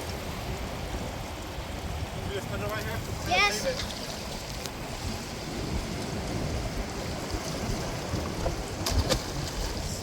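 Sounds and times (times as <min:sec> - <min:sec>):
ocean surf washing: 0:00.0 - 0:10.0
wind rumbling on microphone: 0:00.0 - 0:10.0.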